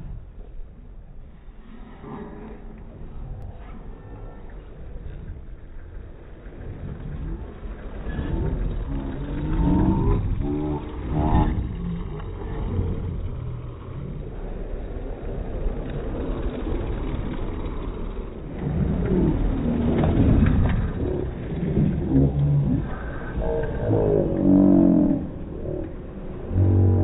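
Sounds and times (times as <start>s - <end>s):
low rumbling noise: 0.0s - 27.0s
slowed spectators' voices: 0.0s - 27.0s.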